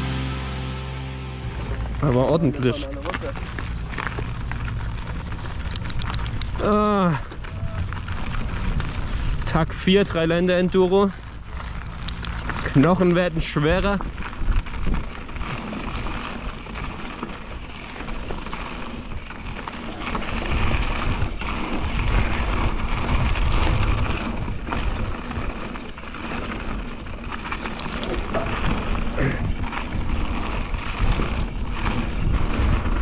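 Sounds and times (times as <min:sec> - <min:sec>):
bike clicks and rattles: 0:01.4 - 0:33.0
tyre noise on dirt: 0:01.4 - 0:33.0
wind buffeting microphone: 0:01.5 - 0:33.0.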